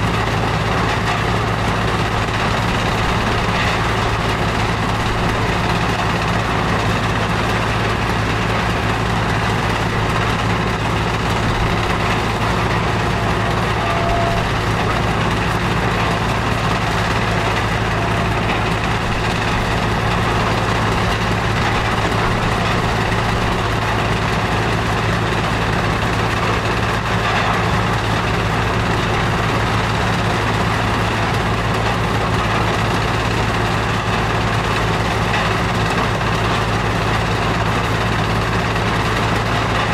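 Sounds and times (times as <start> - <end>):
conveyor machinery noise: 0.0 - 39.9
diesel engine drone: 0.0 - 39.9.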